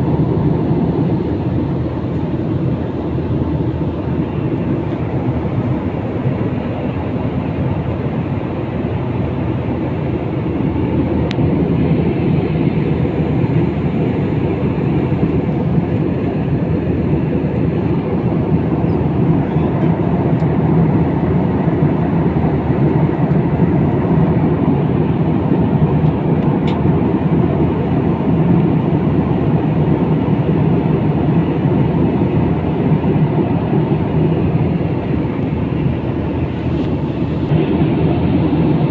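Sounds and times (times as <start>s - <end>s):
jet engine noise in cabin: 0.0s - 38.9s.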